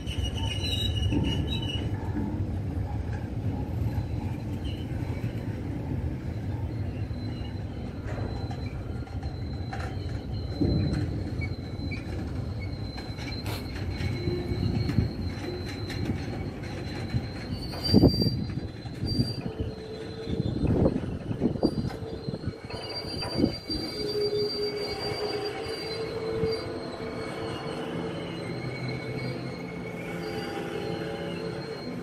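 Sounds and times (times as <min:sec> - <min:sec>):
high wheel squeals: 0:00.0 - 0:32.0
train wheels rumbling on rails: 0:00.0 - 0:32.0.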